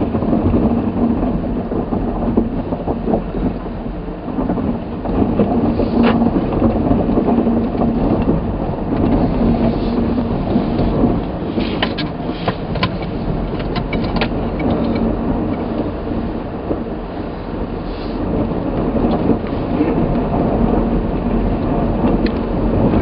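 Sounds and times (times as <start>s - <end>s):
car tyres crunching over snow: 0.0s - 23.0s.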